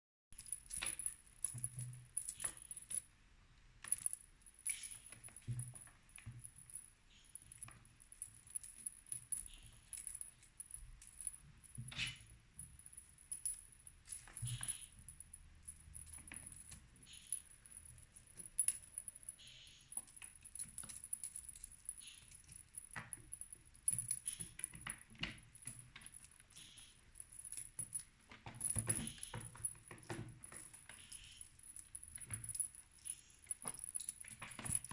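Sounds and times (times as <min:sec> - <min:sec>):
cat toy jingling: 0:00.4 - 0:03.0, 0:03.9 - 0:34.9.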